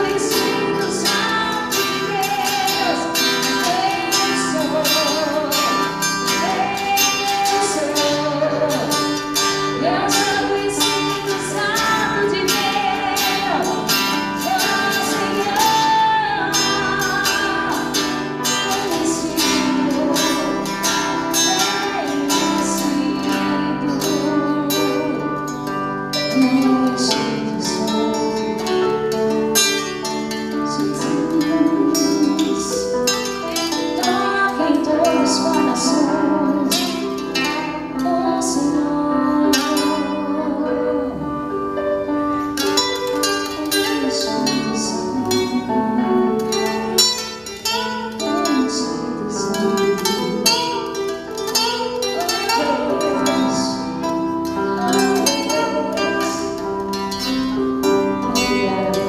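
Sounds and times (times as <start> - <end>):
person singing: 0.0 - 41.8, 42.4 - 59.0.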